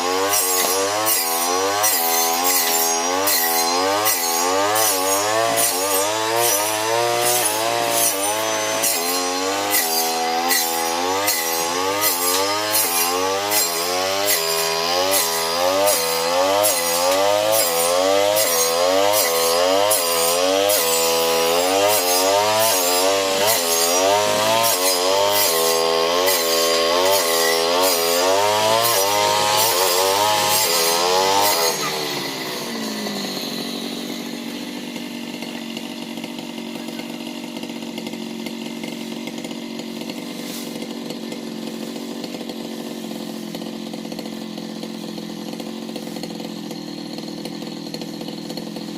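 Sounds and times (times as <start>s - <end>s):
brush cutter engine: 0.0s - 48.9s.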